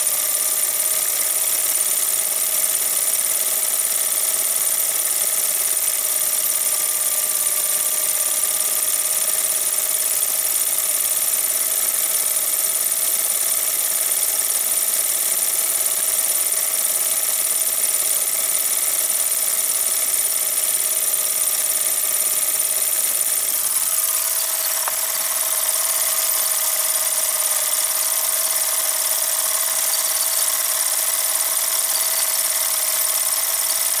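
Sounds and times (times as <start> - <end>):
film projector whirring: 0.0 - 34.0.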